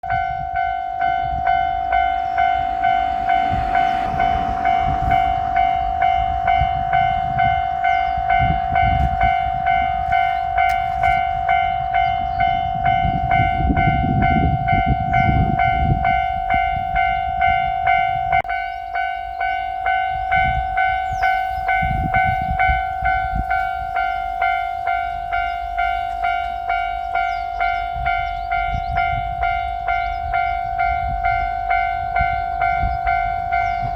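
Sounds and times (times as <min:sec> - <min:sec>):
diesel train rumbling past: 0:00.0 - 0:33.9
railroad crossing bell ringing: 0:00.0 - 0:33.9.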